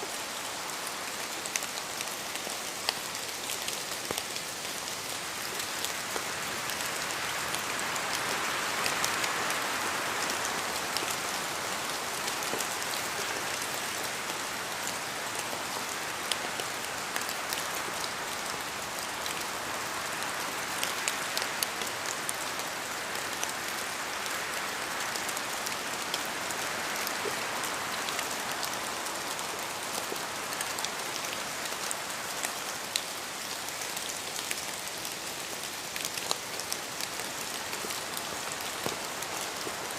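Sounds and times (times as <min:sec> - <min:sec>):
rain falling on foliage: 0:00.0 - 0:39.9
wind gusting through trees: 0:00.0 - 0:39.9.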